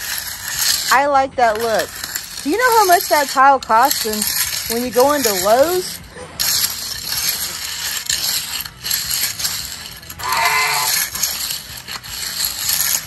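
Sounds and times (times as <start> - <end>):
trowel scraping concrete: 0.0 - 13.0.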